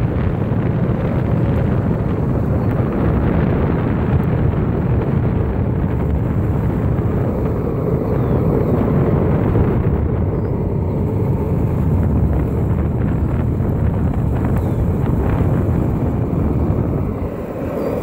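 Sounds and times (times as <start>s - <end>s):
longboard wheels rolling on asphalt: 0.0s - 18.0s
wind noise on microphone: 0.0s - 18.0s.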